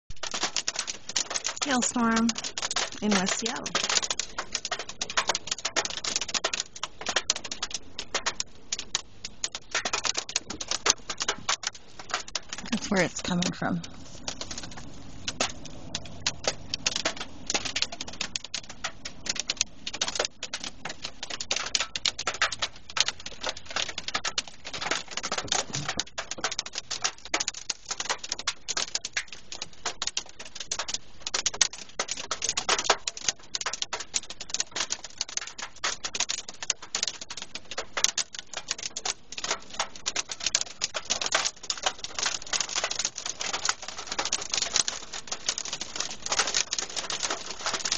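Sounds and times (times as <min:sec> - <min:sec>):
hail drumming on car roof: 0:00.1 - 0:47.9.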